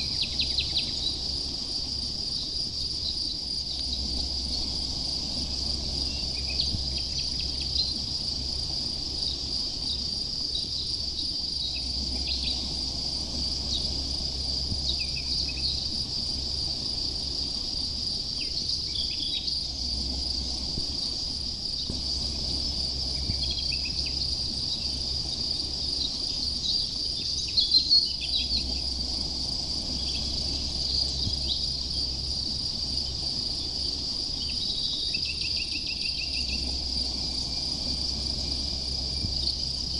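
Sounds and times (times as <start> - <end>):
crickets chirring: 0.0 - 39.9
low rumble: 0.0 - 39.9.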